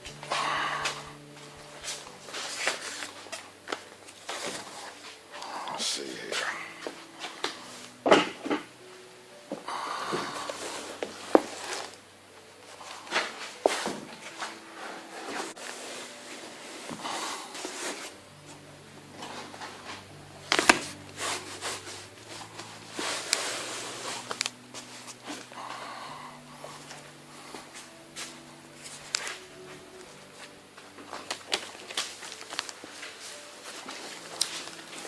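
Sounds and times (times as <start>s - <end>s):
faint steady hum: 0.0s - 35.0s
vinyl sheet rustling: 0.0s - 35.0s.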